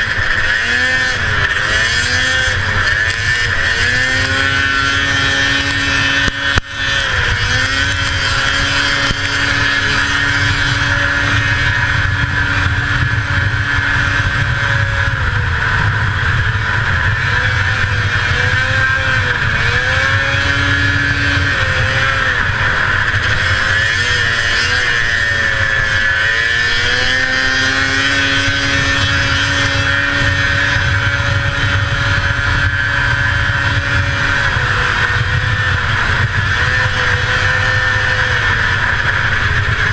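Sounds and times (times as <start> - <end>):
two-stroke engine revving high: 0.0 - 39.9.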